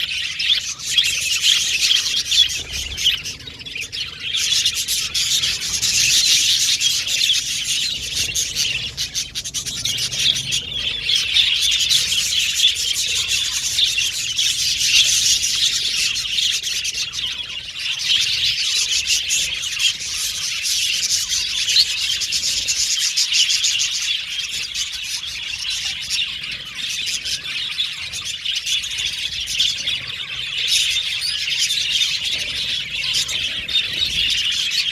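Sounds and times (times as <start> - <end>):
flock of budgerigars chirping: 0.0 - 34.9.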